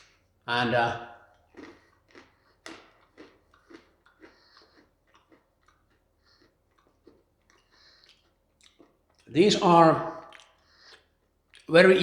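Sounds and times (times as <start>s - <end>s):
person chewing crunchy peanuts: 0.0s - 12.0s.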